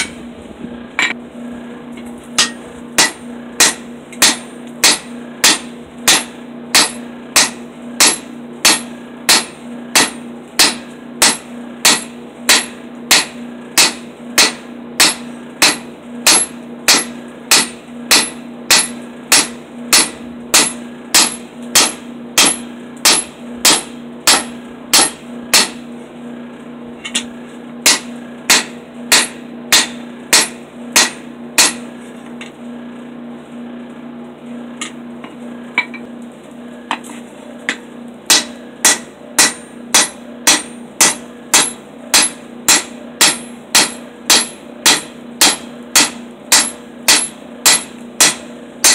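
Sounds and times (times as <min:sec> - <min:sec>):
low hum: 0:00.0 - 0:48.8.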